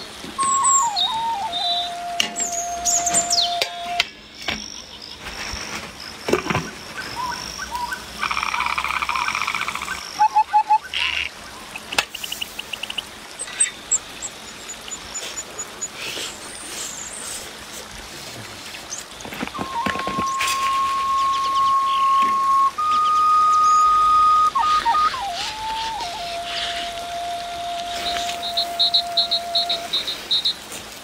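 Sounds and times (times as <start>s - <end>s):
birds chirping: 0.0s - 30.7s
insects calling: 0.0s - 31.0s
frogs croaking: 4.3s - 17.3s, 18.8s - 30.7s.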